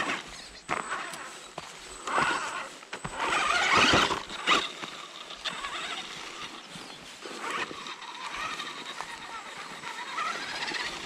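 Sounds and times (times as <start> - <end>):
rc car motor whirring: 0.0 - 11.0.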